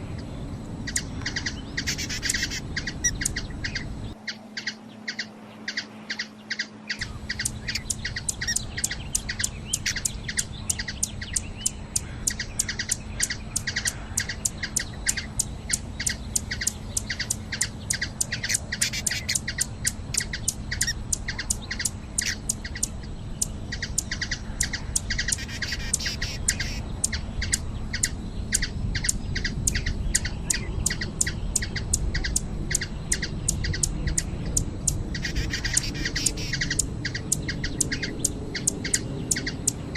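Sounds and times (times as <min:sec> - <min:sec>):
hummingbird chipping: 0:00.0 - 0:39.9
low rumbling noise: 0:00.0 - 0:39.9.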